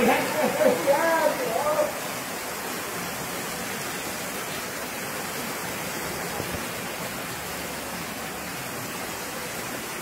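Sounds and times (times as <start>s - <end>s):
heavy rain on paving: 0.0s - 10.0s.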